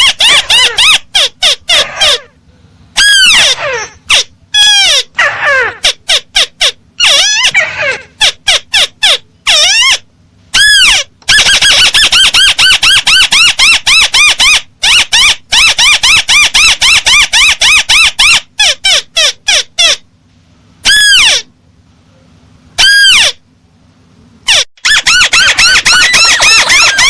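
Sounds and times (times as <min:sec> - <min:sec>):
crake squealing call: 0:00.0 - 0:02.4, 0:03.0 - 0:20.0, 0:20.8 - 0:21.5, 0:22.8 - 0:23.4, 0:24.5 - 0:27.0.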